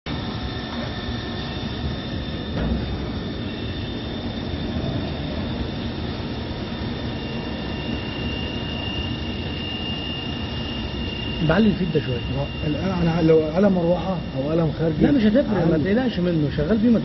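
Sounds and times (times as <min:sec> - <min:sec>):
lathe running with high whine: 0:00.1 - 0:17.0
second lower whine: 0:00.1 - 0:17.0.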